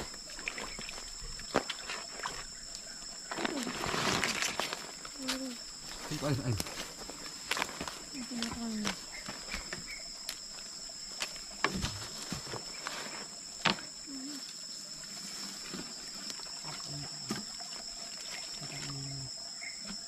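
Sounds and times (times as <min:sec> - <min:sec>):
insects calling: 0:00.0 - 0:20.0.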